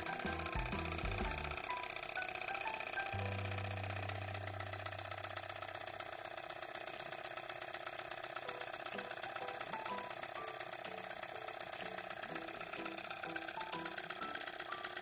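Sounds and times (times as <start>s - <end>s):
stirling engine ticking clatter: 0.0s - 15.0s.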